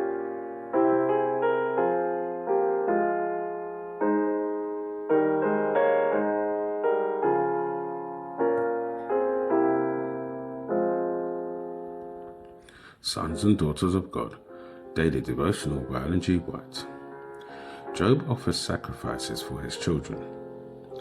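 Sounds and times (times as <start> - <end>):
slow gentle solo piano: 0.0 - 21.0.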